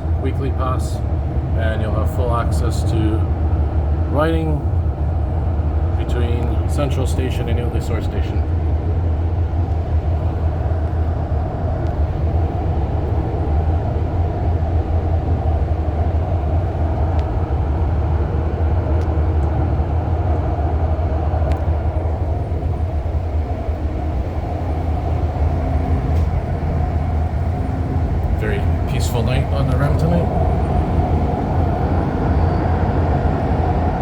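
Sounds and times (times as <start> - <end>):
train running rumble and hiss: 0.0 - 34.0.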